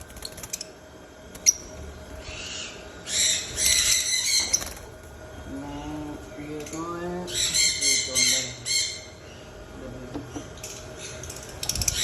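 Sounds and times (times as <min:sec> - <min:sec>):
birds chattering shrilly: 0:01.4 - 0:12.0.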